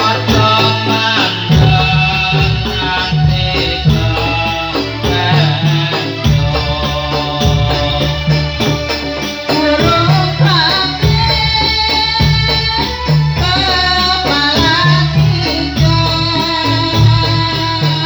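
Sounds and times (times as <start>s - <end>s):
dense drumming with heavy bass: 0.0s - 18.0s.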